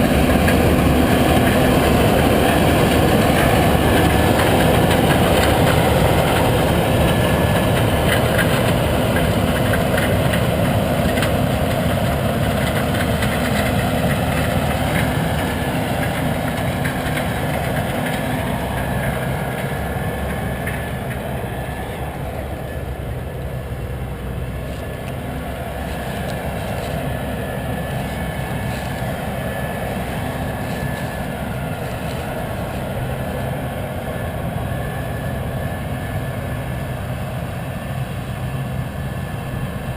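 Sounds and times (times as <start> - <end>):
heavy diesel engine drone: 0.0 - 39.9.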